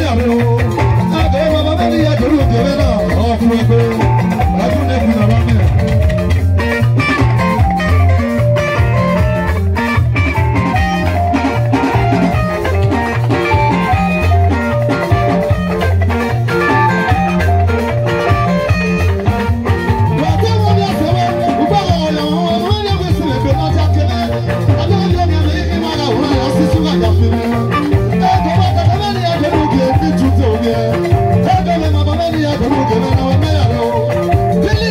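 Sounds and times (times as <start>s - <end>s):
bass line: 0.0s - 34.9s
drum kit: 0.0s - 34.9s
electric guitars: 0.0s - 34.9s.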